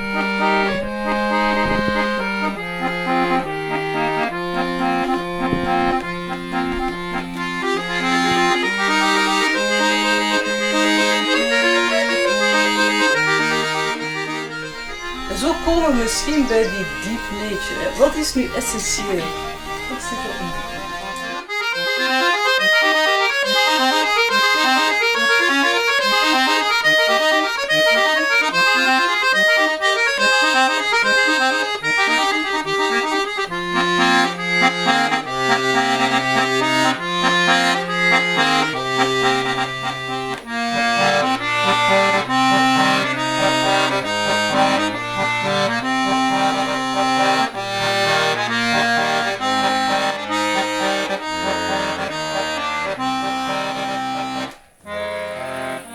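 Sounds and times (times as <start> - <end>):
instrumental music quick melody: 0.0 - 55.9
low held chords: 0.0 - 55.9.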